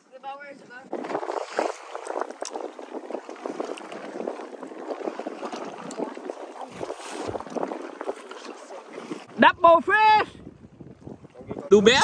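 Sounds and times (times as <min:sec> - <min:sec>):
water splashing against boat hull: 0:00.5 - 0:12.0.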